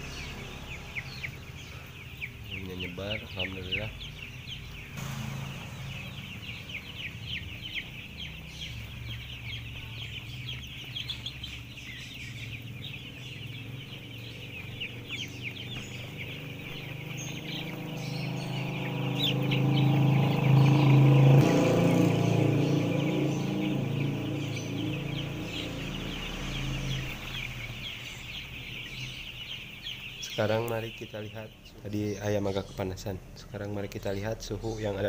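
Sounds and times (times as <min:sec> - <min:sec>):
steady low hum: 0:00.0 - 0:31.9
chicks peeping: 0:00.0 - 0:35.0.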